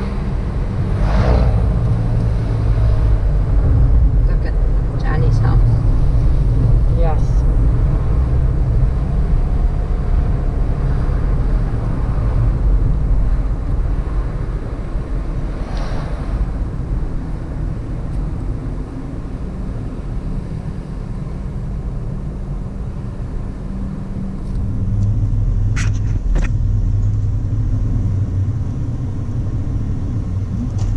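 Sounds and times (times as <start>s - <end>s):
car engine and road rumble: 0.0s - 30.9s.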